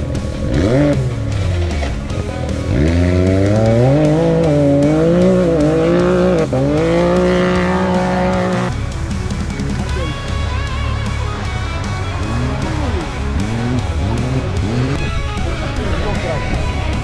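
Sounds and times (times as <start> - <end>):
engine revving hard: 0.0 - 16.4.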